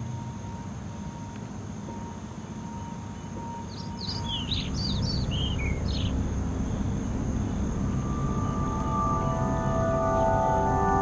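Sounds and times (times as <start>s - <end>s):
low outdoor rumble: 0.0s - 11.0s
songbird chirping: 0.0s - 11.0s.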